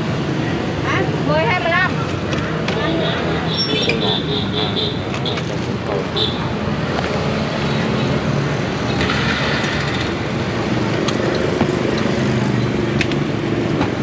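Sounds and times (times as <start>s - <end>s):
motorbike engines running: 0.0s - 14.0s
street traffic noise: 0.0s - 14.0s.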